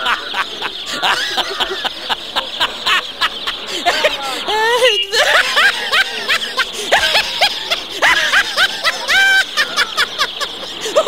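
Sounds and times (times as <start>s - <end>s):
chicks cheeping: 0.0s - 11.0s
high-pitched laughs: 0.0s - 11.0s.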